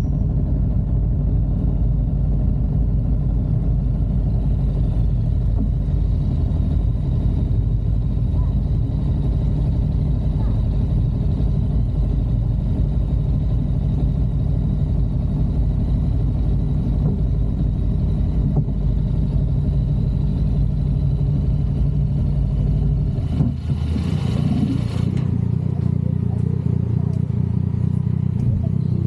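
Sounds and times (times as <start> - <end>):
vehicle road and engine rumble: 0.0 - 29.0.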